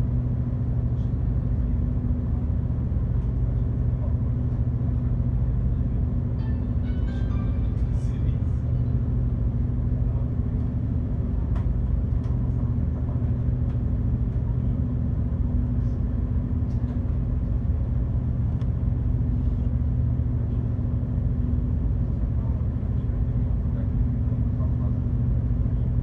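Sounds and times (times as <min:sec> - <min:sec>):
ferry engines droning: 0:00.0 - 0:26.0.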